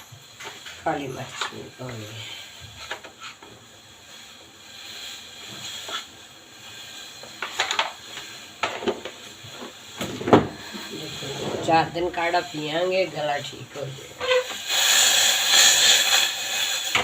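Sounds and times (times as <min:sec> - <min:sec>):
pot hissing on stove: 0:00.0 - 0:17.0.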